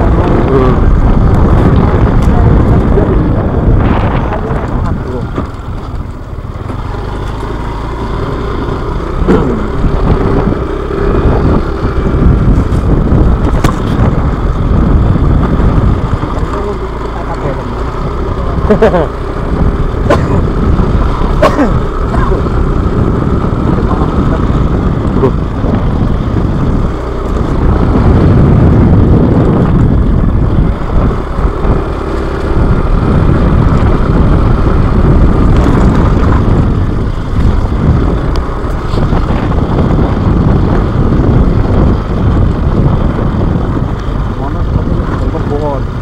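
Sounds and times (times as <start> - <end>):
motorcycle engine running: 0.0 - 46.0
wind rumble on microphone: 0.0 - 46.0.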